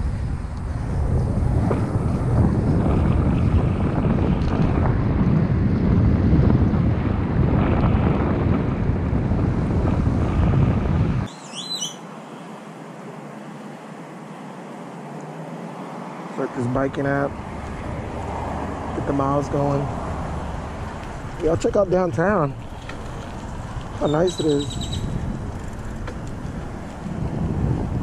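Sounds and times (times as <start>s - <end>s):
wind buffeting microphone: 0.0s - 11.3s, 16.4s - 28.0s.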